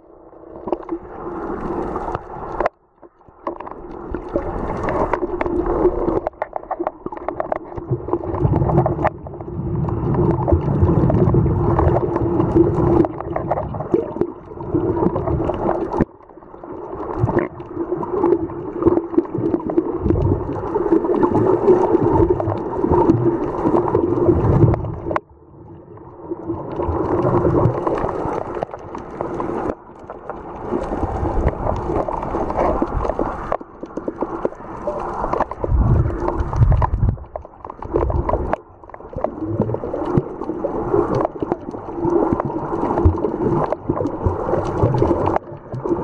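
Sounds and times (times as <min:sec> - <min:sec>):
muffled underwater gurgling: 0:03.5 - 0:46.0.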